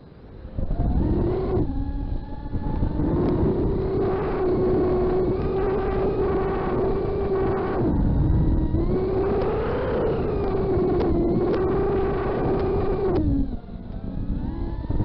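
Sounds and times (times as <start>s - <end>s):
low rumble: 0.1s - 15.0s
quadcopter motors whining: 0.3s - 15.0s.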